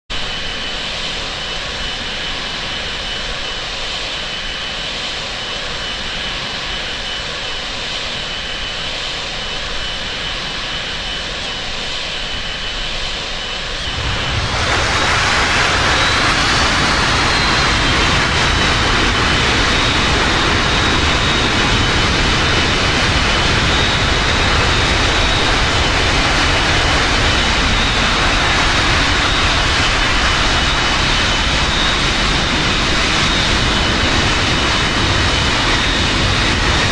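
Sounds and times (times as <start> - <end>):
jet engines roaring with whine: 0.1 - 36.9.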